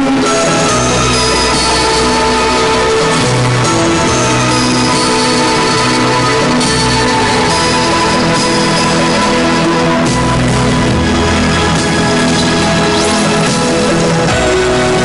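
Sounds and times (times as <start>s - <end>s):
instrumental theme music chords: 0.0s - 15.0s.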